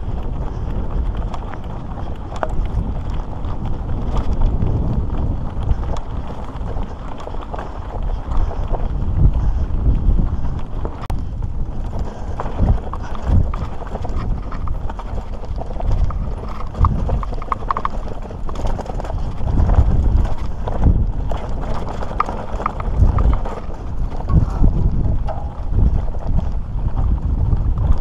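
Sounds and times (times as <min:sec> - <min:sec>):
bike parts rattling: 0:00.0 - 0:27.4
bike tyres rumbling on dirt trail: 0:00.0 - 0:28.0.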